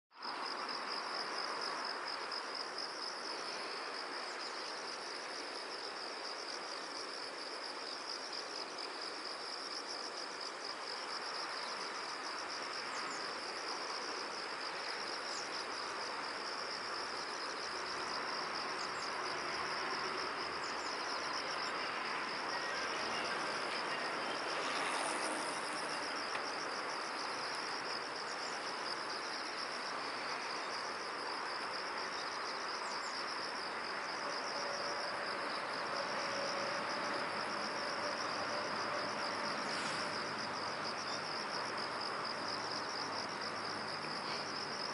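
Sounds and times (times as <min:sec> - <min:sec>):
crickets trilling: 0:00.2 - 0:44.9
steady background hiss: 0:00.2 - 0:44.9.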